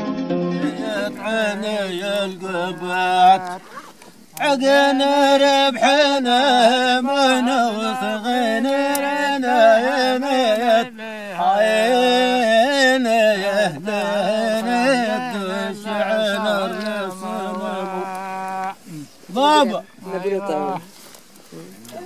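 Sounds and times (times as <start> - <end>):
man singing chant-like melody: 0.4 - 20.9.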